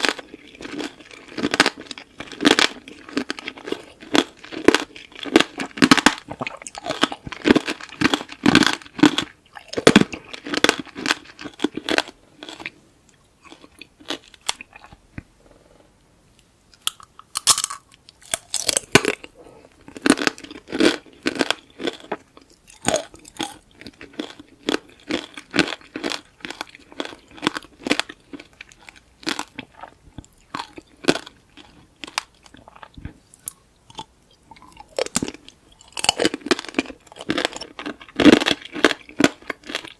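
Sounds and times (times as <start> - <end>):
candy crunching between teeth: 0.0 - 12.8, 13.4 - 15.0, 16.8 - 39.9.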